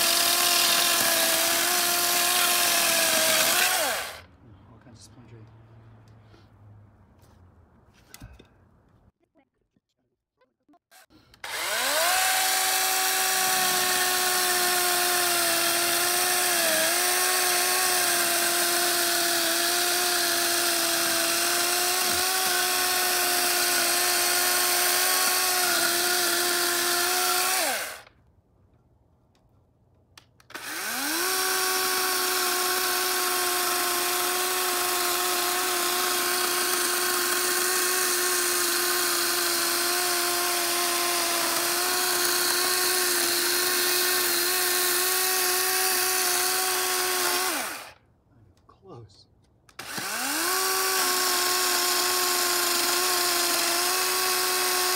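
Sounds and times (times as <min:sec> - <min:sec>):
battery chainsaw whining: 0:00.0 - 0:04.3, 0:10.9 - 0:28.1, 0:30.4 - 0:48.0, 0:49.7 - 0:54.9
chainsaw cutting wood: 0:00.0 - 0:04.3, 0:10.9 - 0:28.2, 0:30.3 - 0:48.0, 0:49.7 - 0:54.9.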